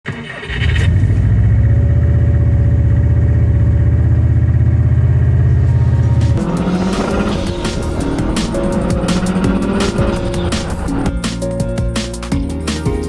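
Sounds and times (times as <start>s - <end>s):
car engine idling: 0.8s - 12.2s.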